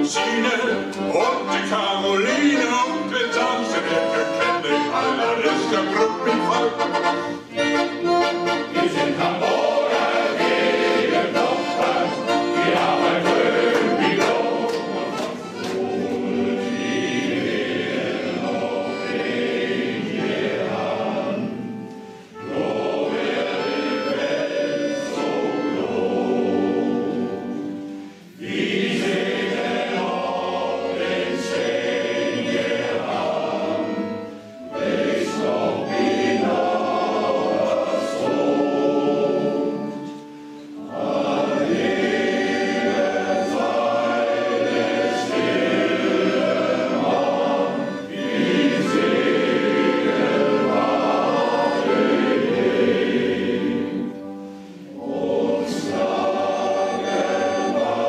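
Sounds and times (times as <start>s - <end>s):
male choir singing: 0.0s - 58.0s
piano accordion: 0.0s - 58.0s.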